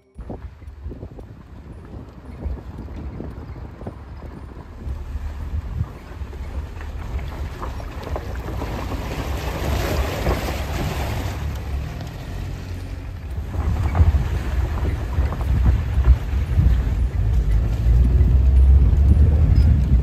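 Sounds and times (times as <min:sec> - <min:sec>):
wind on microphone: 0:00.0 - 0:12.4, 0:13.0 - 0:20.0
engine rumble: 0:00.0 - 0:20.0
water sloshing under wheels: 0:00.1 - 0:20.0.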